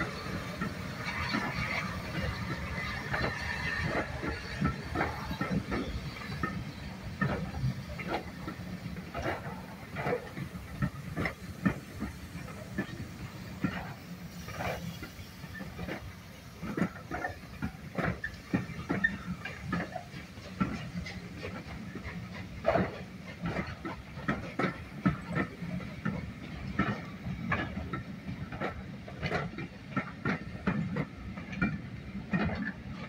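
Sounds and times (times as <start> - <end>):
steam hissing: 0.0 - 31.0
low train rumble: 0.0 - 33.0
train wheels clicking over rail joints: 0.0 - 33.0.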